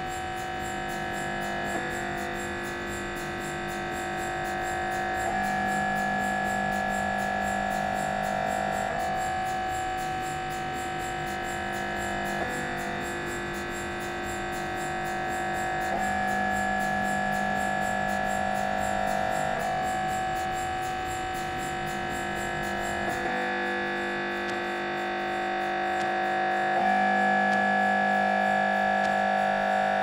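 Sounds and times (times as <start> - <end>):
droning electronic tones: 0.0 - 30.0.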